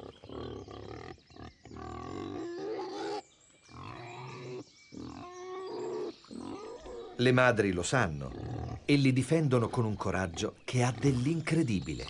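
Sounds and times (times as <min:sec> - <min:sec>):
animal calls: 0:00.0 - 0:12.0.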